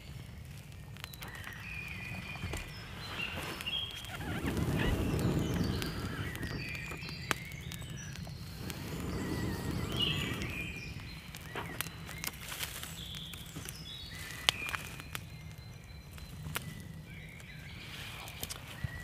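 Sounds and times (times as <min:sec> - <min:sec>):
kindling crackling: 0:00.0 - 0:19.0
woodland birds singing: 0:00.0 - 0:19.0.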